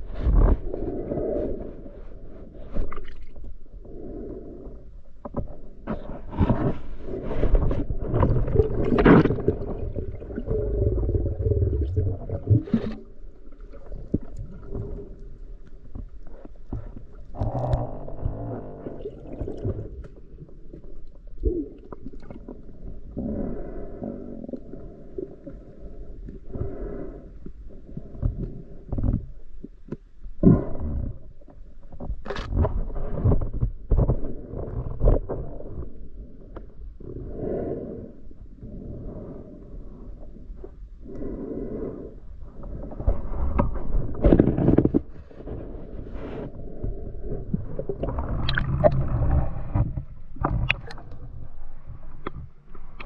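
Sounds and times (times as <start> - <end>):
underwater water and bubbles gurgling: 0.0 - 53.0.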